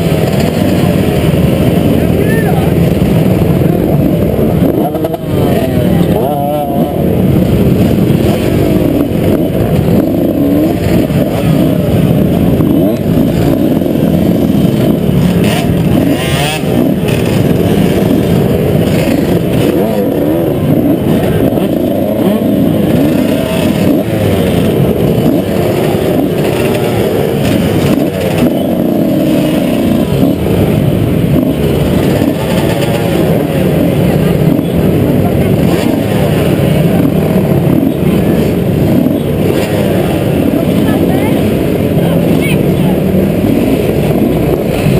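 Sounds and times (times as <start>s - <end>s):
motocross bike engines at low revs: 0.0s - 44.9s.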